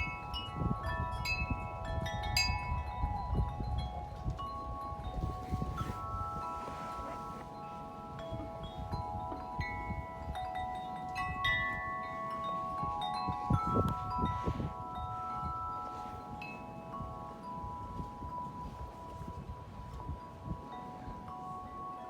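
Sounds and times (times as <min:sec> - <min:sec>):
wind chime ringing: 0:00.0 - 0:22.0
wind rumbling on microphone: 0:00.0 - 0:22.0.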